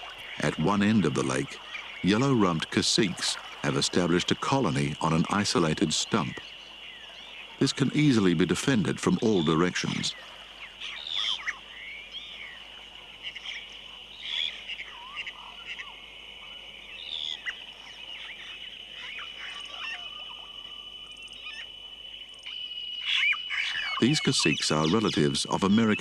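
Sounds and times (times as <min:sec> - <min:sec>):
birds whistling calls: 0:00.0 - 0:26.0
high insect drone: 0:00.0 - 0:26.0.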